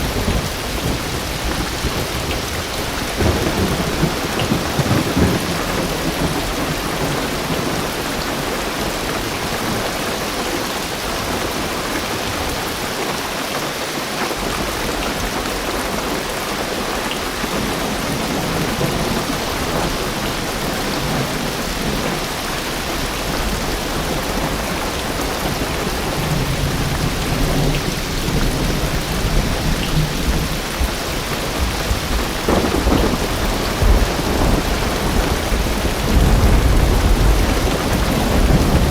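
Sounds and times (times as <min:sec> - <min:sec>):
low thunder rumble: 0:00.0 - 0:09.9, 0:17.4 - 0:38.9
heavy rain on car roof: 0:00.0 - 0:38.9.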